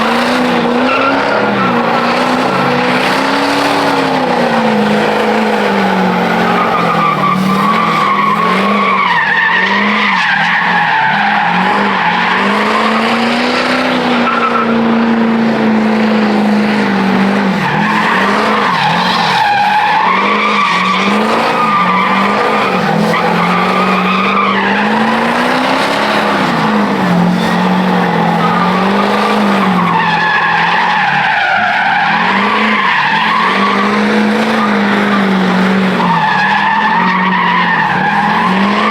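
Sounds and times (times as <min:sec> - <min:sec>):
spinning squealing tires: 0:00.0 - 0:38.9
truck engine revving: 0:00.0 - 0:38.9.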